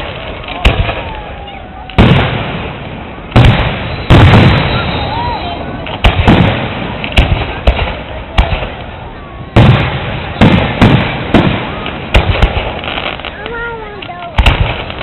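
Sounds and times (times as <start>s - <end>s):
fireworks booming: 0.0s - 15.0s
rumbling echo: 0.0s - 15.0s.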